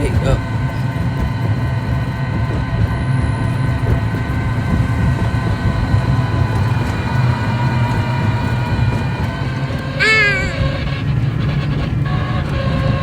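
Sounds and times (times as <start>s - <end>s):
electric motor whine: 0.0s - 13.0s
wheels rumbling on pavement: 0.0s - 13.0s.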